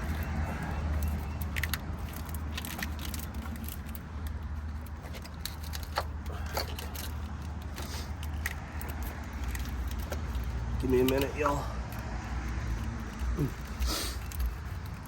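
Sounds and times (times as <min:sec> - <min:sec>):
light clicks and metallic clinks: 0:00.0 - 0:15.0.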